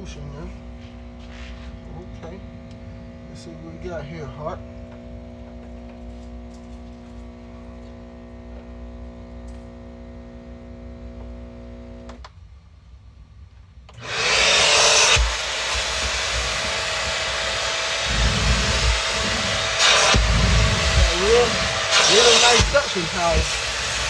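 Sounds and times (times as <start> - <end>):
pump humming: 0.0 - 12.2, 14.0 - 24.0
vacuum motor whining: 0.0 - 12.3, 13.9 - 24.0.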